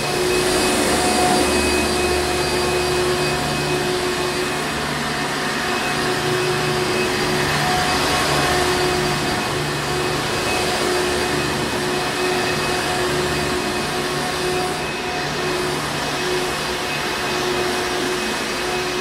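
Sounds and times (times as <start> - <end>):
upright vacuum cleaner running: 0.0 - 19.0.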